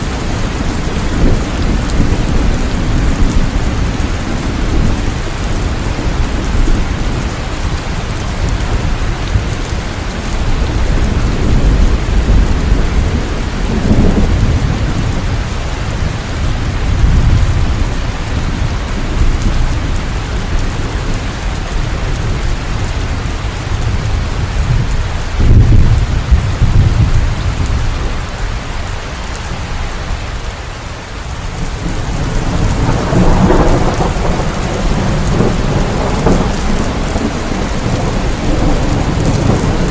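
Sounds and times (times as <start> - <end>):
low rolling thunder: 0.0 - 30.4, 31.5 - 39.9
heavy rain: 0.0 - 39.9.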